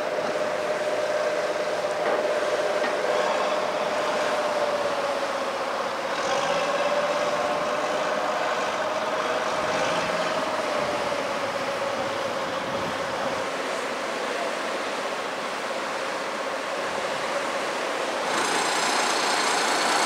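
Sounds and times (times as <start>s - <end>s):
diesel engine whine: 0.0s - 20.0s.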